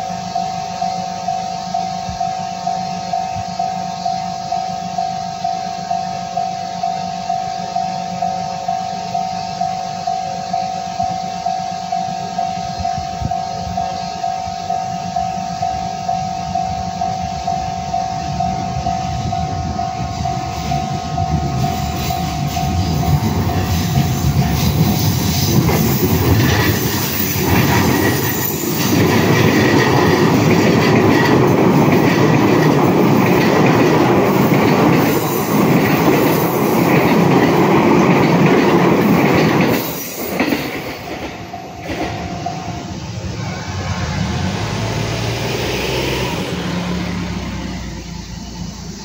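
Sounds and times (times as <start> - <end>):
electric train passing: 0.0 - 49.0.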